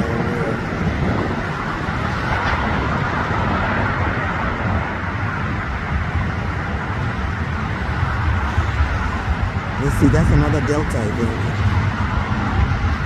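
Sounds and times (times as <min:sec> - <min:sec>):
traffic engine roar: 0:00.0 - 0:13.0.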